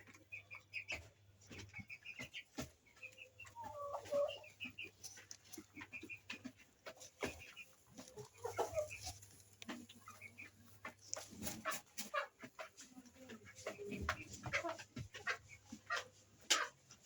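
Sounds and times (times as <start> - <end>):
hen clucking: 0.0 - 17.0.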